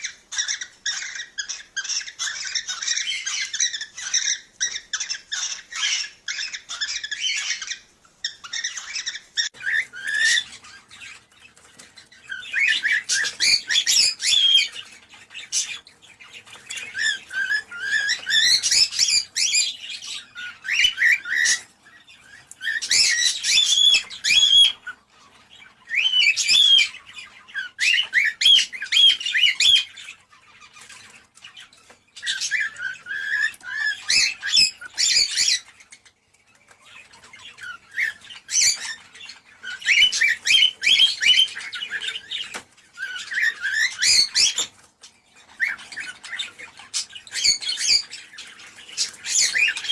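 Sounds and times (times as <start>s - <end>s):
cockatiels chattering and whistling: 0.0s - 49.9s.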